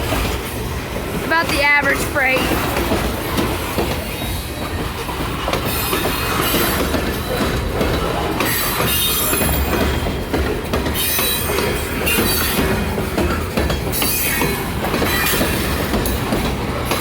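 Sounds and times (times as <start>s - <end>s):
train wheels rumbling on rails: 0.0s - 17.0s
wheels squealing: 1.6s - 17.0s.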